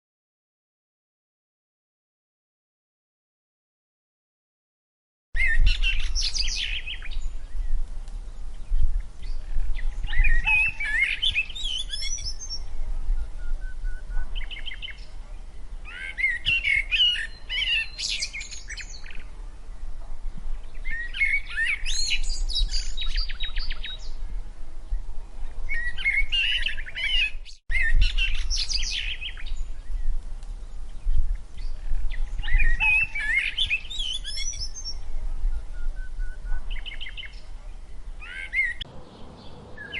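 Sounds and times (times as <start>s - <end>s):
birds chirping and singing: 5.4s - 39.9s.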